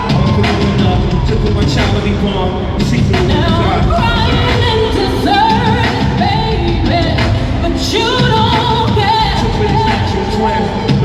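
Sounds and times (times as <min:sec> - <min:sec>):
live pop band playing: 0:00.0 - 0:11.0
person singing: 0:00.0 - 0:11.0.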